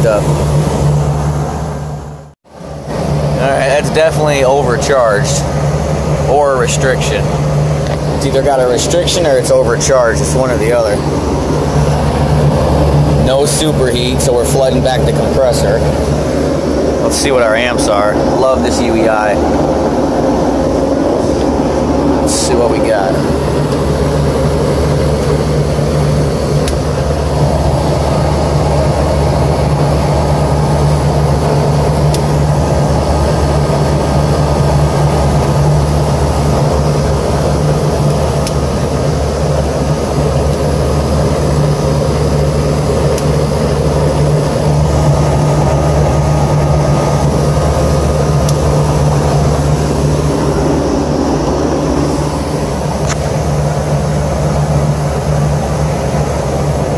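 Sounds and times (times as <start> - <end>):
air conditioner unit humming: 0.0 - 56.9.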